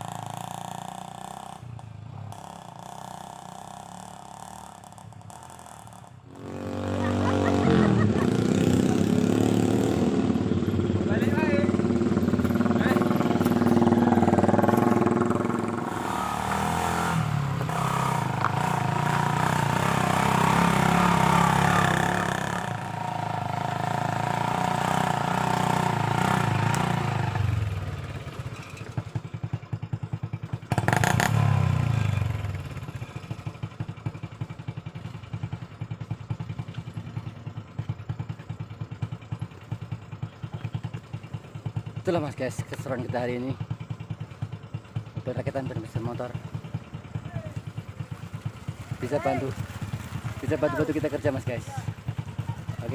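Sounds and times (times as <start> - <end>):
motorcycle engine revving and idling: 0.0 - 52.9.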